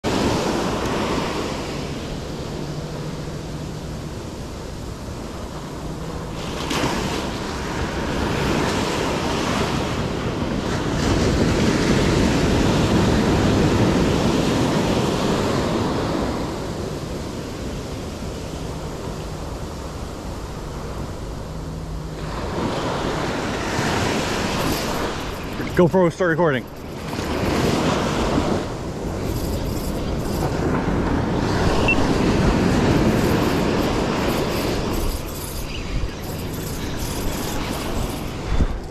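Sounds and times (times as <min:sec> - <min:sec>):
waves washing up beach: 0:00.0 - 0:38.9
wind buffeting microphone: 0:00.0 - 0:38.9.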